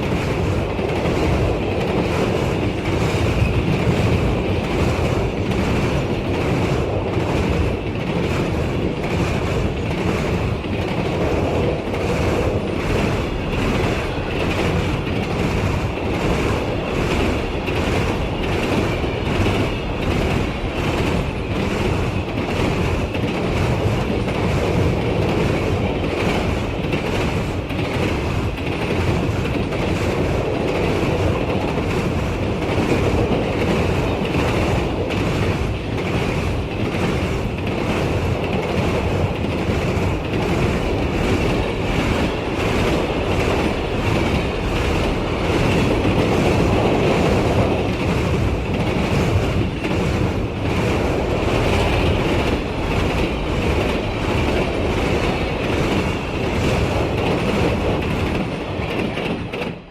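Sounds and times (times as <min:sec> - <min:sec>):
wheels clickety-clack: 0:00.0 - 0:59.9.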